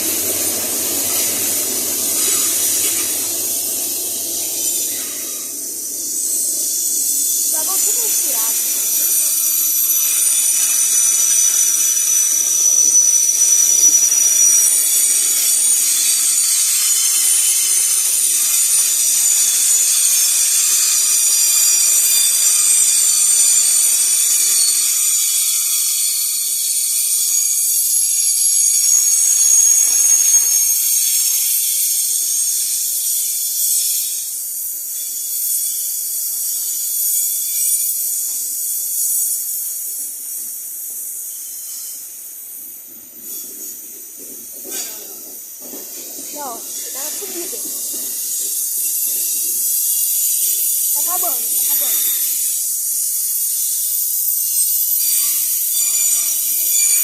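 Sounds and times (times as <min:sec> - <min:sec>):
train wheels squealing on rails: 0:00.0 - 0:57.0.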